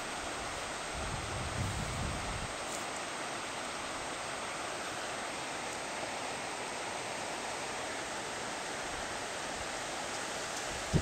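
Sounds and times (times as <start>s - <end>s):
stream water flowing over gravel: 0.0s - 11.0s.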